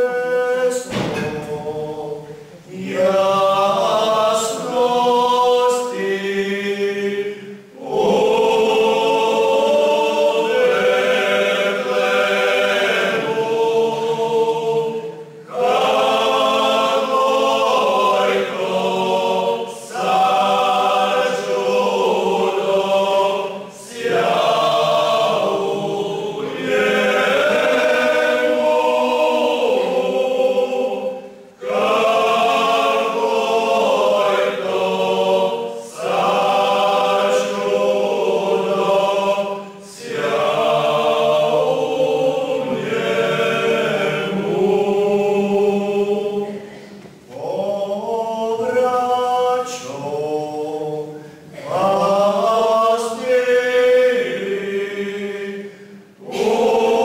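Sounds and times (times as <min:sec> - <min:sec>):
male group singing a cappella: 0:00.0 - 0:57.0.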